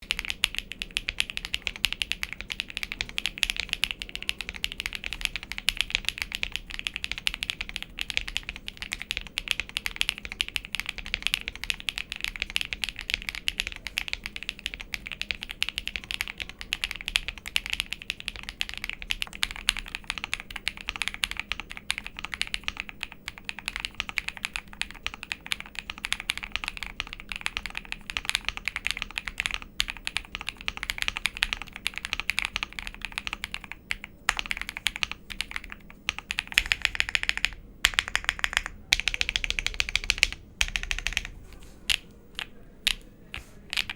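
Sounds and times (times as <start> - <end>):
fast mechanical keyboard typing: 0.0 - 43.9.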